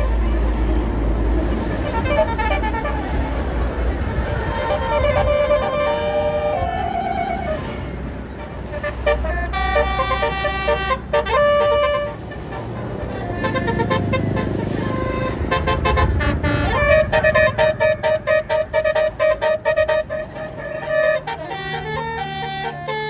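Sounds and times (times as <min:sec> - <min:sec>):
bus engine running: 0:00.0 - 0:23.0
multi-tone air horn melody: 0:00.0 - 0:23.0.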